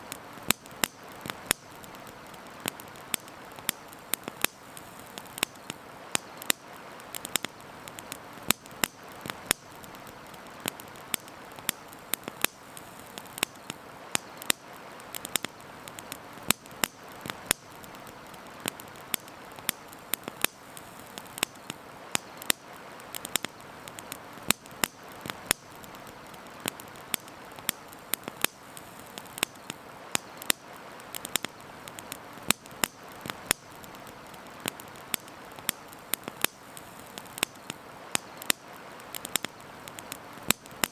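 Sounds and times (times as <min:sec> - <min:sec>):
campfire crackling and popping: 0:00.0 - 0:40.9
steady fire hiss: 0:00.0 - 0:40.9.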